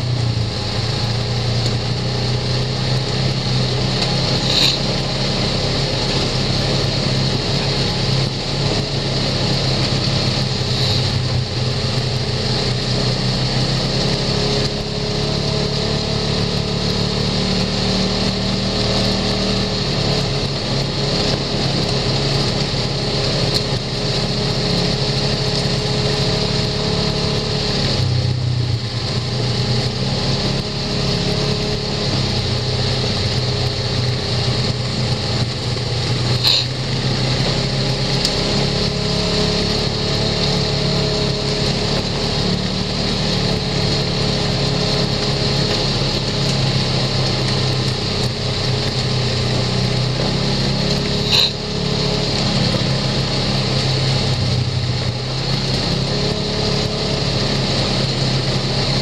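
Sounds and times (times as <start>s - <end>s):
utv engine running: 0.0s - 59.0s.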